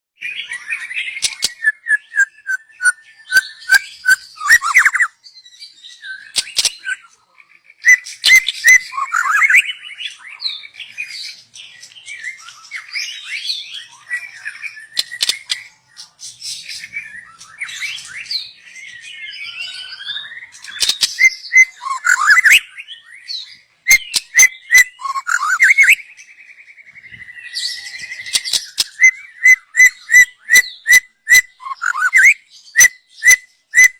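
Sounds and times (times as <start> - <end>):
songbird singing: 0.2 - 33.9.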